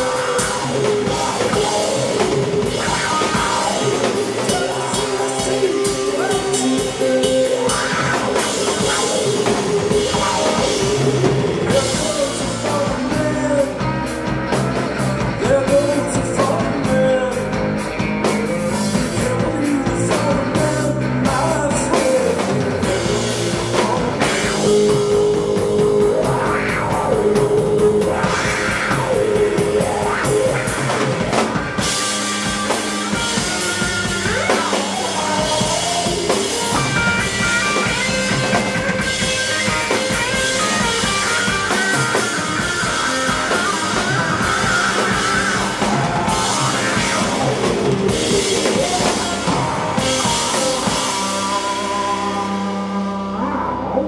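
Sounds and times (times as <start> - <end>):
drum kit beat: 0.0 - 53.2
live rock band playing: 0.0 - 54.0.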